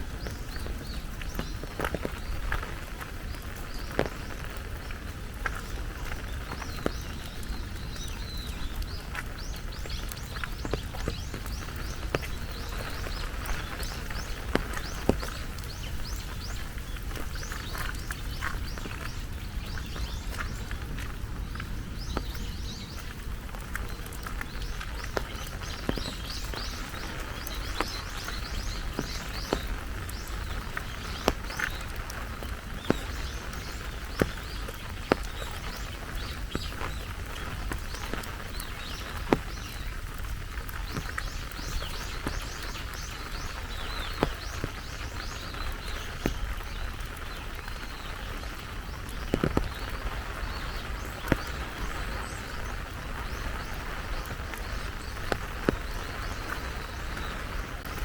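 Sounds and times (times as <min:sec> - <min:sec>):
birds chirping: 0:00.0 - 0:58.0
steady rain falling: 0:00.0 - 0:58.0
sharp drip ticks: 0:00.1 - 0:58.0.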